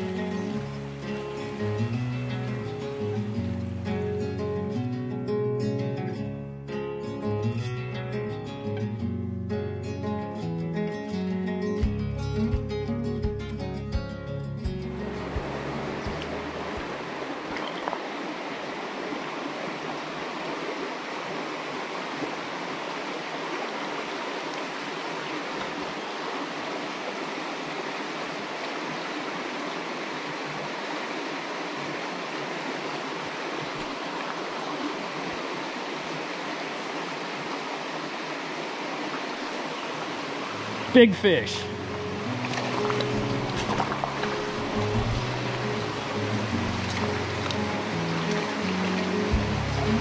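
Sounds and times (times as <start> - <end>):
stream running over rocks: 0.0 - 9.0, 14.6 - 50.0.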